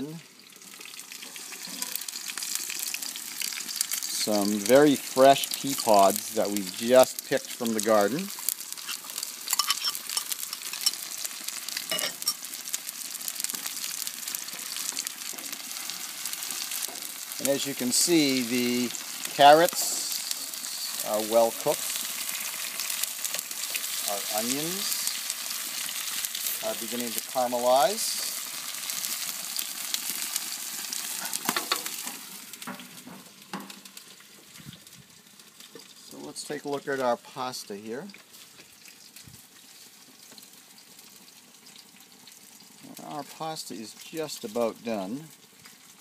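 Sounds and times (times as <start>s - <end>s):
vegetables sizzling in a pan: 0.0s - 46.0s.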